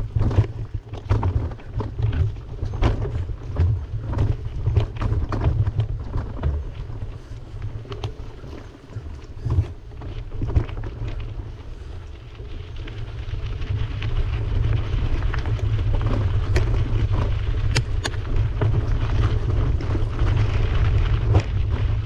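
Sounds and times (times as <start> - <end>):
bicycle knocks and rattles: 0.0 - 11.4, 13.3 - 22.0
wind rumbling on microphone: 0.0 - 22.0.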